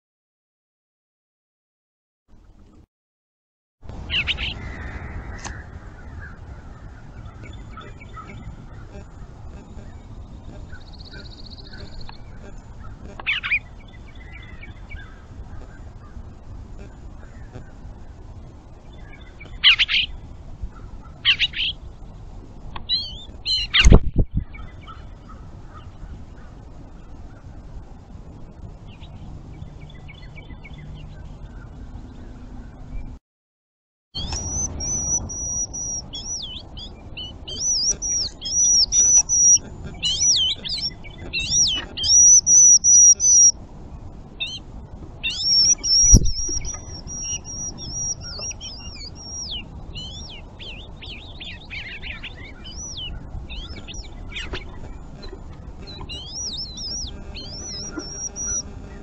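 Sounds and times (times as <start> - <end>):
low outdoor background: 2.3 - 2.9, 3.8 - 33.2, 34.2 - 59.0
songbirds singing: 3.9 - 33.2, 34.2 - 59.0.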